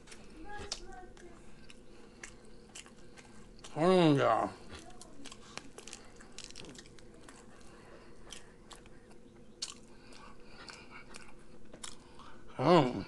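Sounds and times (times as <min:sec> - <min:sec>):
chewing sounds: 0:00.0 - 0:12.6.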